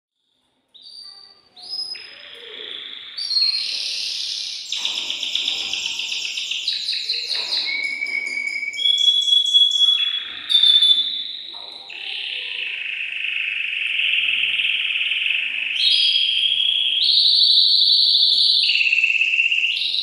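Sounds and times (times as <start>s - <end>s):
canary singing trills: 0.7s - 20.0s.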